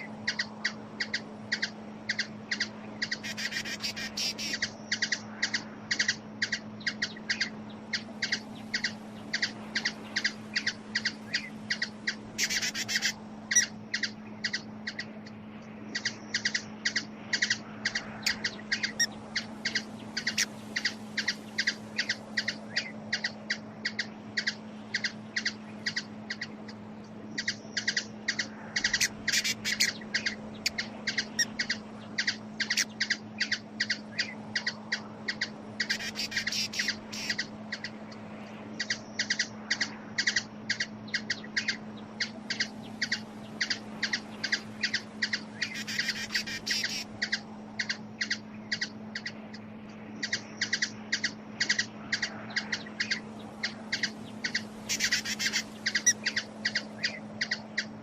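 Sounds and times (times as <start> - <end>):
small bird chip calls: 0.0 - 58.0
steady low hum: 0.0 - 58.0.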